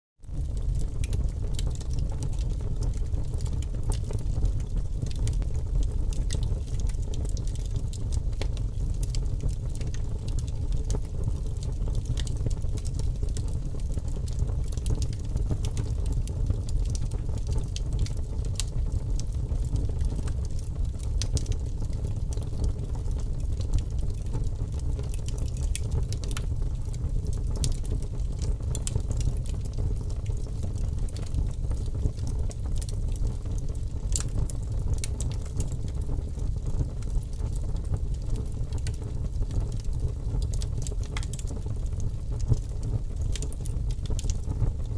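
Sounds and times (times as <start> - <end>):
fire crackling and popping: 0.3 - 44.9.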